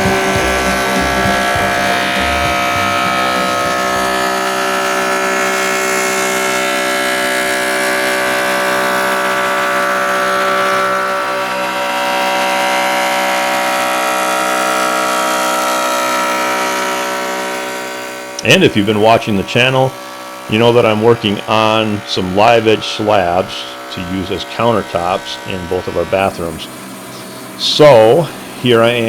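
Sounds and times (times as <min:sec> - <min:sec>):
oscillating multi-tool buzzing: 0:00.0 - 0:29.0.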